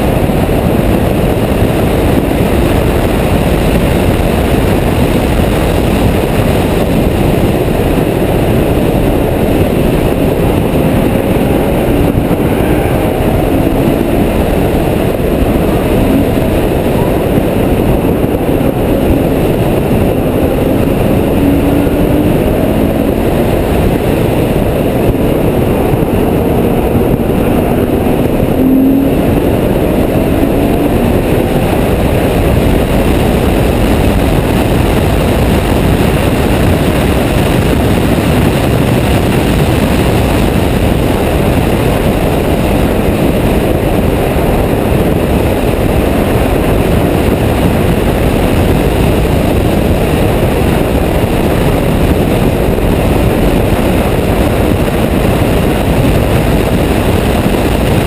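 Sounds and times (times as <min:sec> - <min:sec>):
car engine: 0:00.0 - 0:58.0
wind and road noise: 0:00.0 - 0:58.0.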